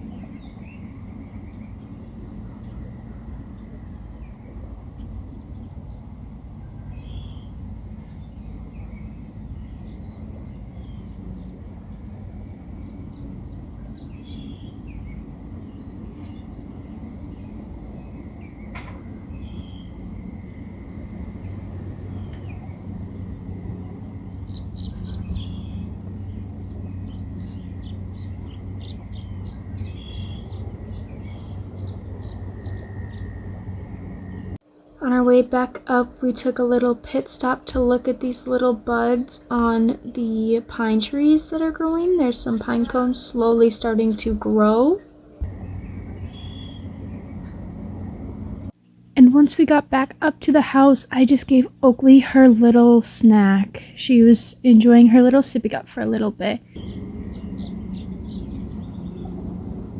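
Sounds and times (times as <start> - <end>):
wind rumbling on microphone: 0.0 - 34.6, 36.5 - 48.7, 56.7 - 59.9
small birds chirping: 0.0 - 35.7, 36.4 - 49.1, 54.9 - 59.9.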